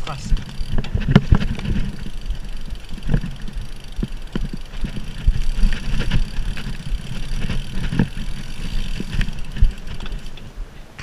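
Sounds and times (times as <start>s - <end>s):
bike rattling over rough trail: 0.0s - 11.0s.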